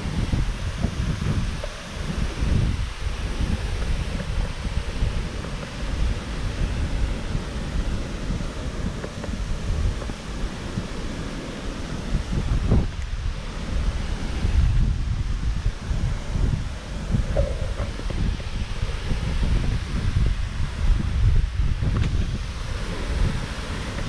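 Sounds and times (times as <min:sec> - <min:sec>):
steady rushing noise: 0:00.0 - 0:24.0
wind buffeting microphone: 0:00.0 - 0:24.0.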